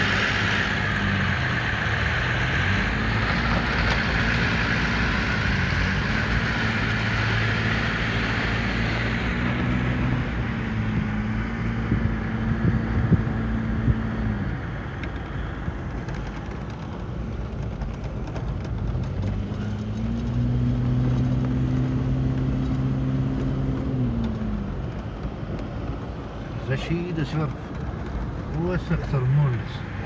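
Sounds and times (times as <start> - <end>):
car engine hum: 0.0 - 30.0
road noise inside car: 0.0 - 30.0.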